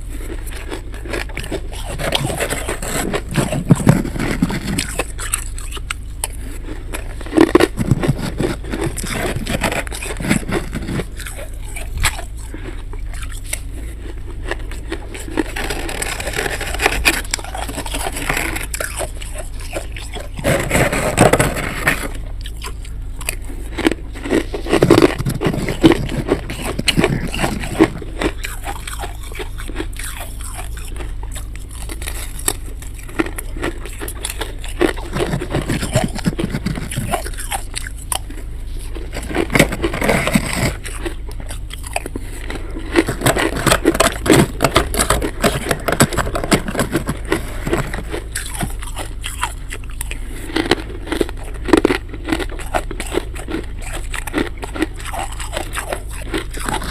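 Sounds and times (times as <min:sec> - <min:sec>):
frost being scraped: 0:00.0 - 0:51.6
steady low hum: 0:00.0 - 0:56.9.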